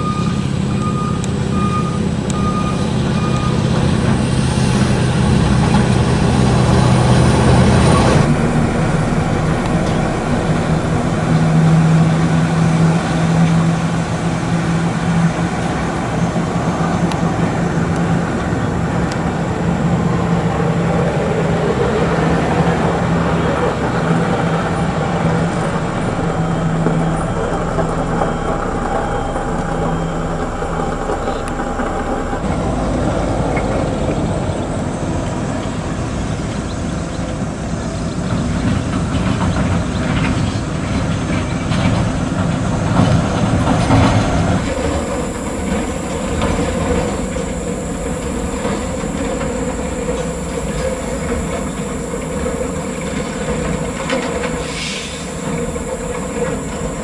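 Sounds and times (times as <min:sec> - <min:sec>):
heavy vehicle engine rumble: 0:00.0 - 0:57.0.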